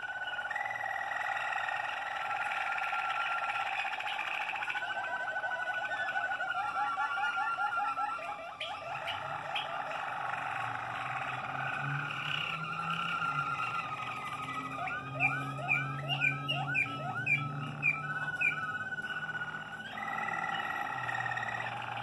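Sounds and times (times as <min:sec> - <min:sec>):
canaries singing: 0:00.0 - 0:22.0.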